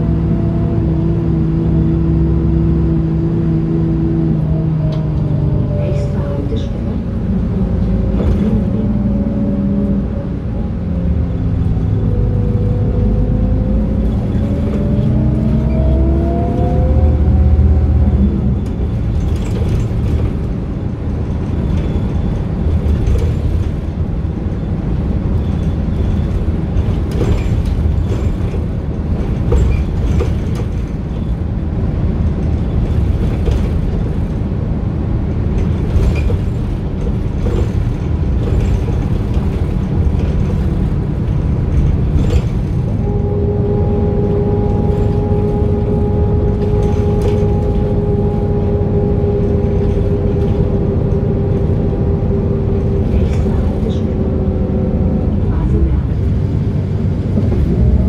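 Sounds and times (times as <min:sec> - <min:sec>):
bus diesel engine: 0:00.0 - 0:58.0
road rumble: 0:00.0 - 0:58.0
interior rattles and clicks: 0:04.8 - 0:09.2, 0:11.3 - 0:58.0.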